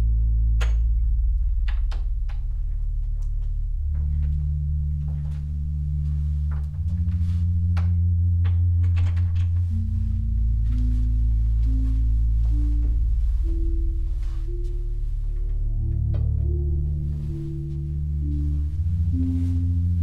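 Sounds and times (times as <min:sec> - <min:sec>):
low droning tones: 0:00.0 - 0:20.0.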